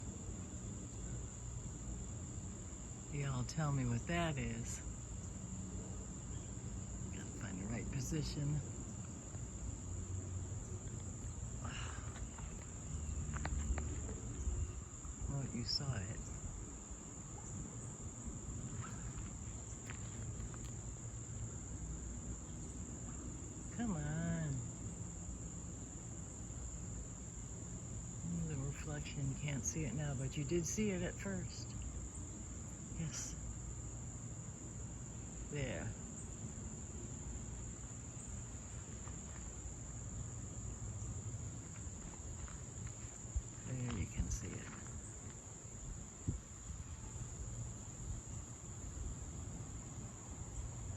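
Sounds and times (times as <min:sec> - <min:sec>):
crickets trilling: 0:00.0 - 0:50.9
high-pitched insect chorus: 0:00.0 - 0:50.9.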